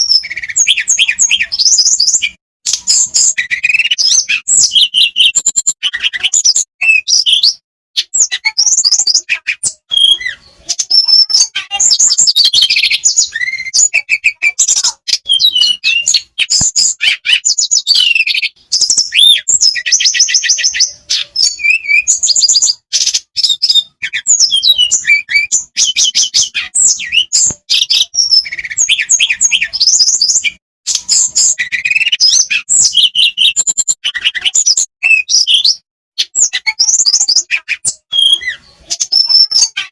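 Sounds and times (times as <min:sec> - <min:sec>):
songbird trilling and warbling: 0:00.0 - 0:39.9.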